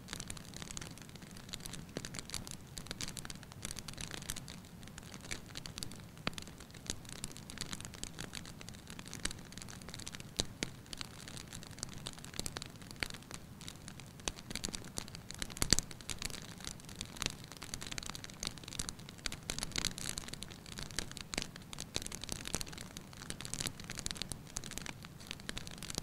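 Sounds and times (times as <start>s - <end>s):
wood fire hissing and crackling: 0.0s - 26.0s.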